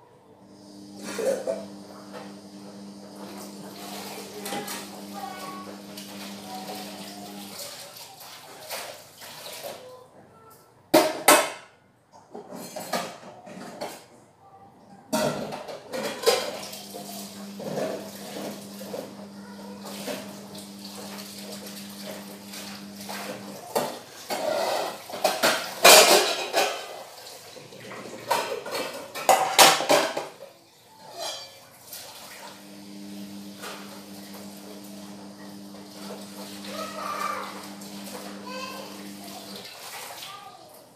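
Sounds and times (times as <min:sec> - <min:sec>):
tap water running: 0:00.4 - 0:09.9, 0:15.5 - 0:30.4, 0:31.6 - 0:40.9
dishes clattering in sink: 0:00.8 - 0:09.9, 0:11.0 - 0:14.2, 0:15.1 - 0:40.5.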